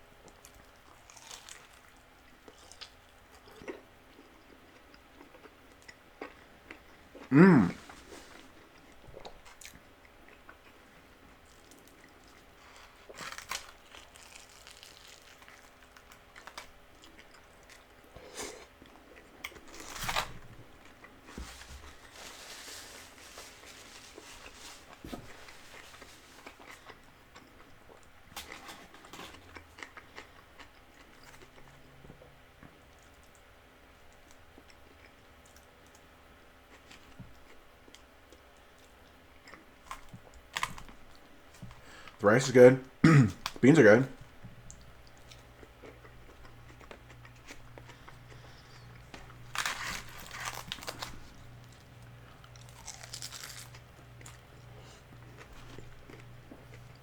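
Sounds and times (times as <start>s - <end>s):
crunching and chewing fried food: 0.0s - 57.0s.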